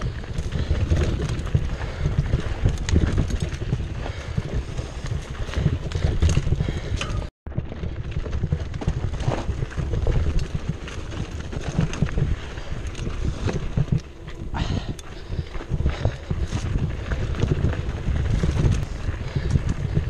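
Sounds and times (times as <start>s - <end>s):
mountain bike rattling downhill: 0.0s - 20.0s.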